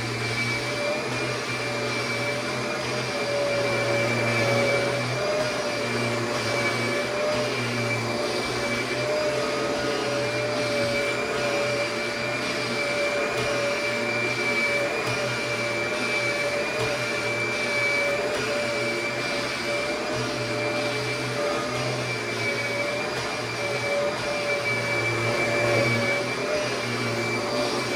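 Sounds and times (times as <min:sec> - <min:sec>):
vacuum cleaner running: 0:00.0 - 0:27.9.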